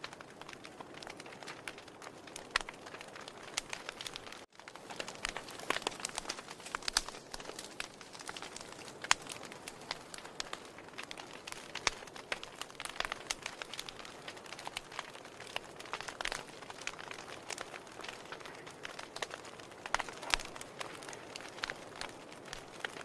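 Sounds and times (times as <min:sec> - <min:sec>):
wood fire crackling and popping: 0:00.0 - 0:23.0
fire hissing: 0:02.6 - 0:23.0.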